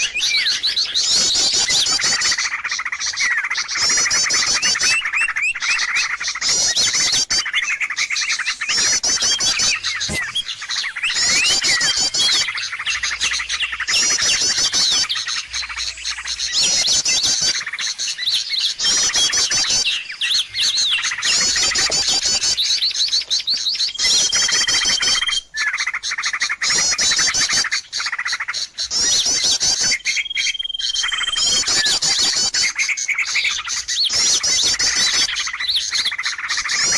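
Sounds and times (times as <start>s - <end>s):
small birds chirping and trilling: 0.0s - 36.9s.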